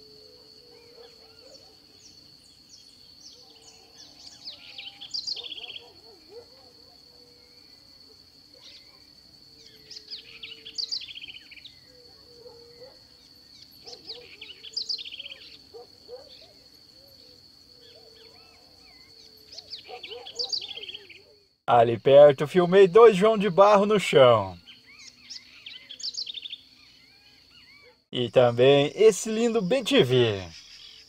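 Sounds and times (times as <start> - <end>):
wren singing: 0.8 - 6.2, 9.6 - 31.0.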